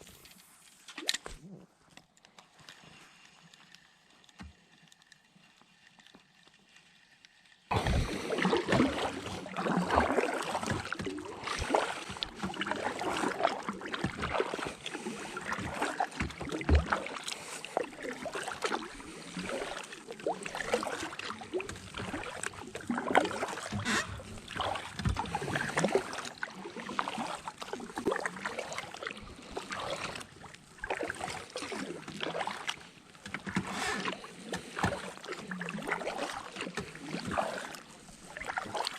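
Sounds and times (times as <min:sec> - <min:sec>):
water splashing and sloshing: 0:00.0 - 0:38.9.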